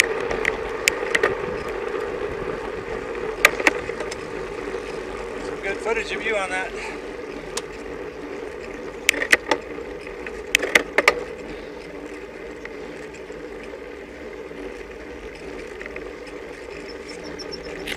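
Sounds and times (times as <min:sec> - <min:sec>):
road bike riding noise: 0:00.0 - 0:17.9.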